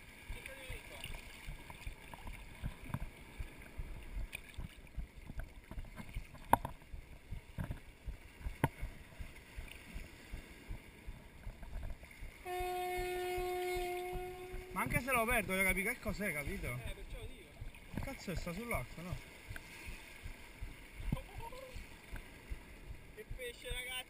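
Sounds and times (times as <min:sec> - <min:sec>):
steady low tone: 0:00.0 - 0:23.8
low splashes: 0:00.0 - 0:24.0
small waves lapping: 0:00.0 - 0:24.0.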